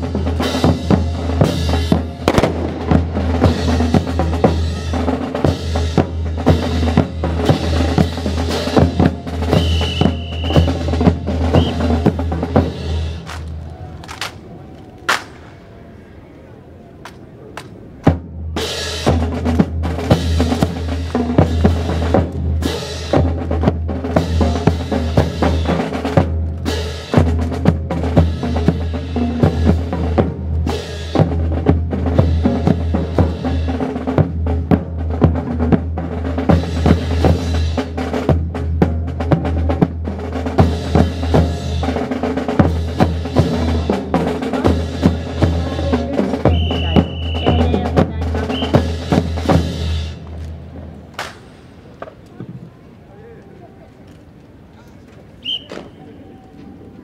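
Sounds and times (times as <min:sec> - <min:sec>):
marching music with drums: 0:00.0 - 0:14.4, 0:17.1 - 0:52.6.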